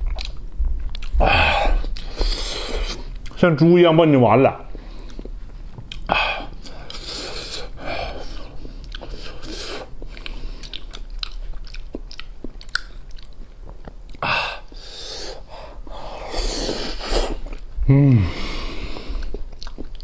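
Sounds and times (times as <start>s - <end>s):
man chewing with wet smacks: 0.0s - 3.4s, 4.6s - 17.8s, 18.6s - 20.0s.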